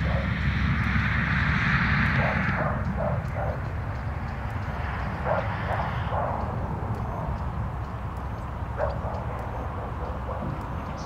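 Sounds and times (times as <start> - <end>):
steady low rumble: 0.0 - 11.0
distant animal calls: 2.0 - 11.0.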